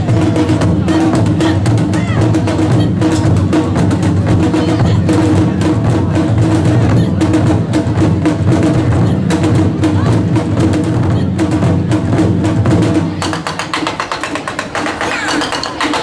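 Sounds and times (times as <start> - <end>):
deep drum: 0.0 - 16.0.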